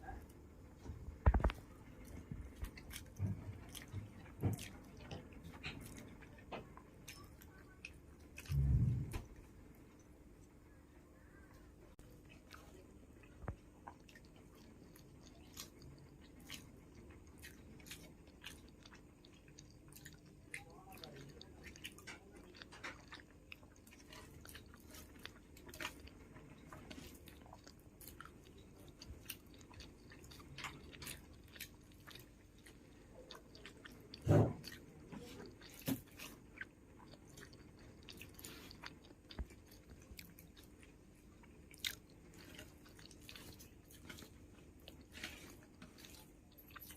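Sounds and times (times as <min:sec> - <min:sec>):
person chewing: 0:00.0 - 0:10.6, 0:12.0 - 0:46.9.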